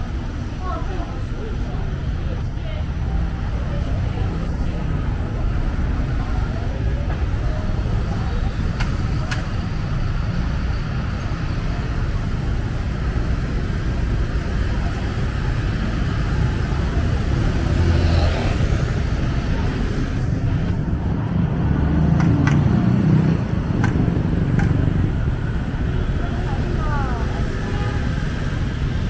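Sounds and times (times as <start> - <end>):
scooters and cars passing: 0.0 - 29.0.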